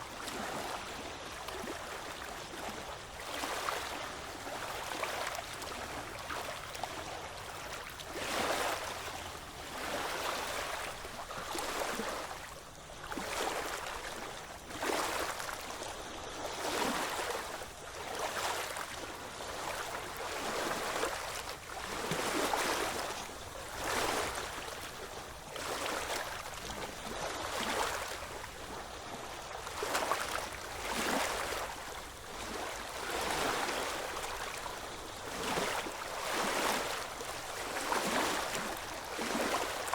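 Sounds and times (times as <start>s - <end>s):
small ocean waves washing ashore: 0.0s - 39.9s.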